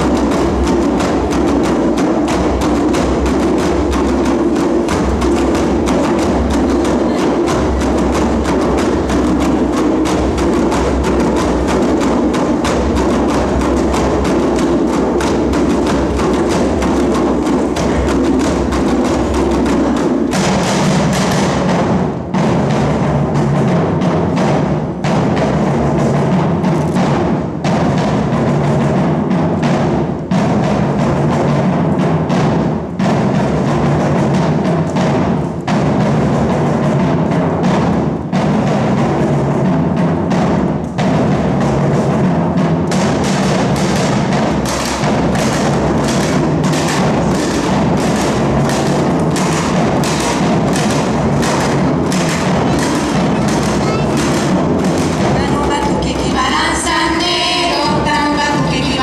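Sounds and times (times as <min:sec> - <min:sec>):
hand drums and mallet drums: 0:00.0 - 0:59.0.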